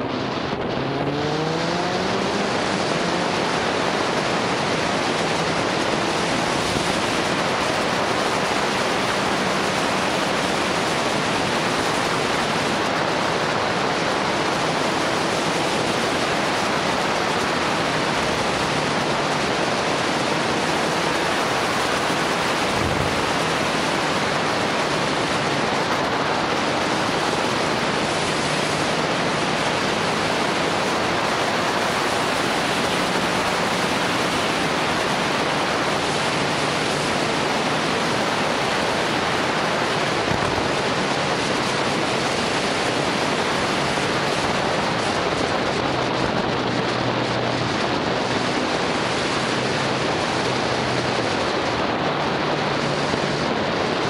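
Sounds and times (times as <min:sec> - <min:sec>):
wind rush over microphone: 0:00.0 - 0:54.0.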